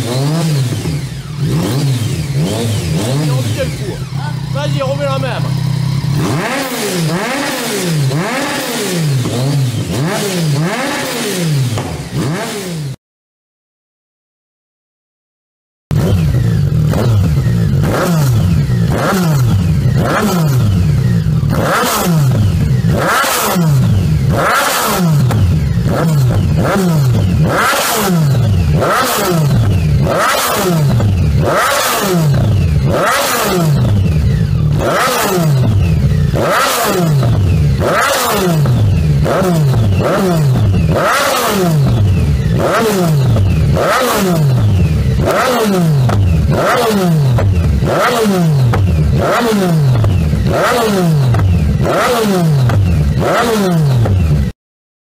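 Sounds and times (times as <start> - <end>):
motorcycle engine revving: 0.0 - 13.0, 15.9 - 54.6
exhaust cracking: 0.6 - 10.1, 15.9 - 54.4.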